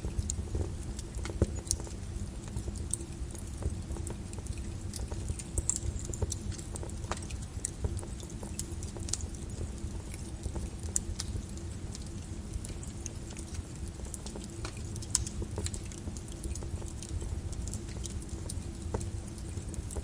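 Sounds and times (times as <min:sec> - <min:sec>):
lava crackling and clinking: 0:00.0 - 0:20.0.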